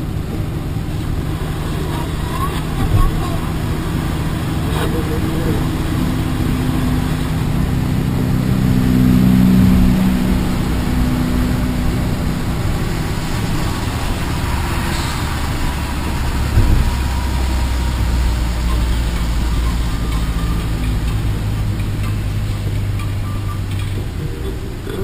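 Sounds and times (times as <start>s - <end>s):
car engine humming: 0.0s - 25.0s
road noise: 0.0s - 25.0s.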